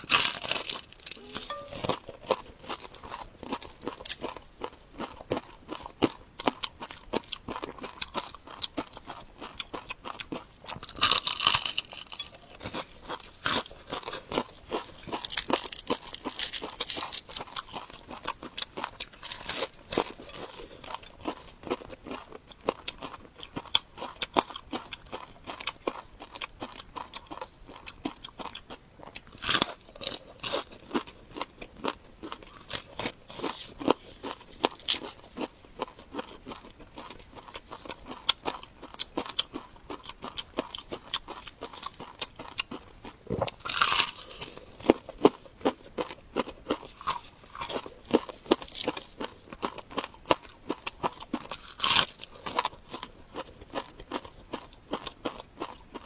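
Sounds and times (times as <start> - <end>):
chewing and biting: 0.0 - 1.7, 2.3 - 56.0
crunchy bites: 3.0 - 20.2, 20.8 - 56.0.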